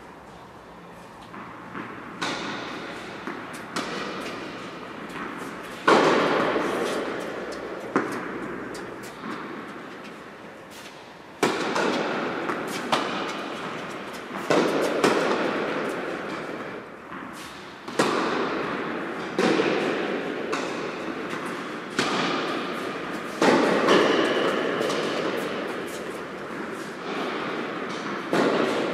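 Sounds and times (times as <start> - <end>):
tennis ball hit with racquets: 0.2 - 28.9.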